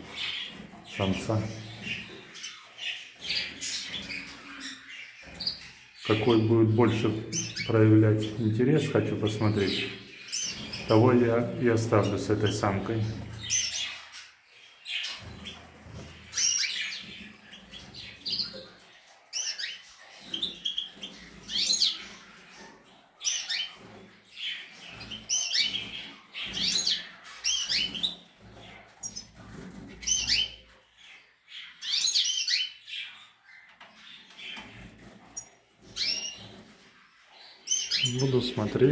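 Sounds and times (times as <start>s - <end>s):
birds twittering and chirping: 0.0s - 38.9s.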